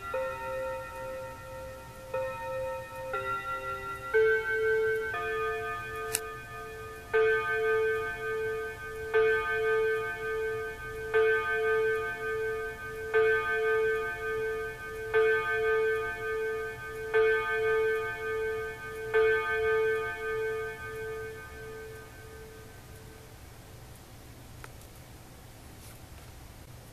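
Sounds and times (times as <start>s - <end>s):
wall clock chime striking: 0.0s - 23.4s.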